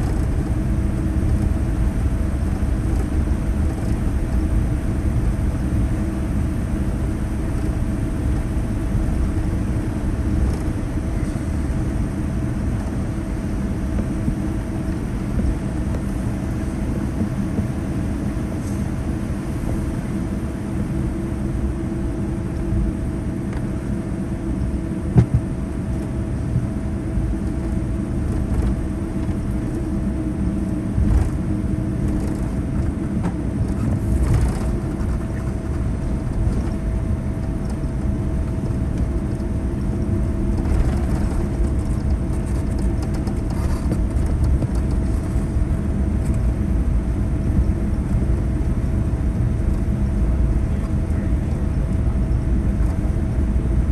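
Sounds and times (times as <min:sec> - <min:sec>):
aircraft cabin rumble: 0:00.0 - 0:53.9
mid-pitched hum: 0:00.0 - 0:53.9.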